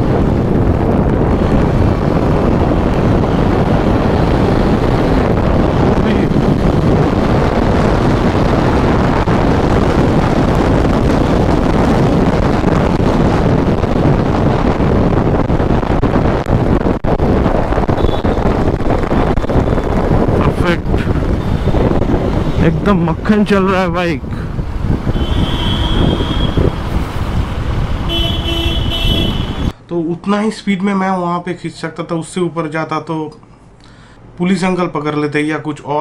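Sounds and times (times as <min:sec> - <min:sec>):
wind noise on microphone: 0:00.0 - 0:29.8.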